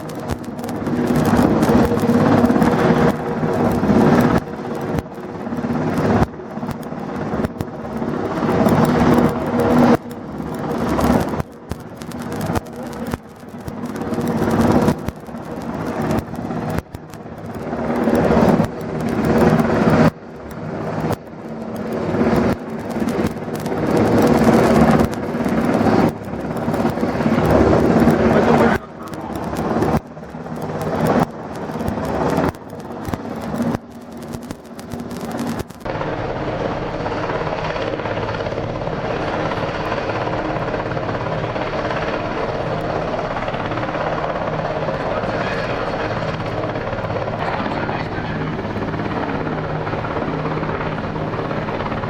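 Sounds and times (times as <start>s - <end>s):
rushing wind-like noise: 0.0s - 52.0s.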